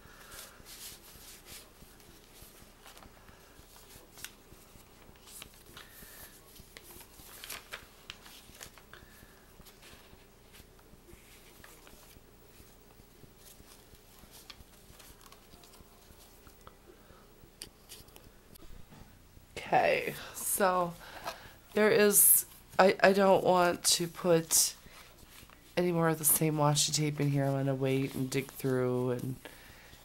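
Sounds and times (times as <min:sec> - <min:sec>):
paper pages rustling: 0:00.1 - 0:16.7, 0:21.0 - 0:30.0.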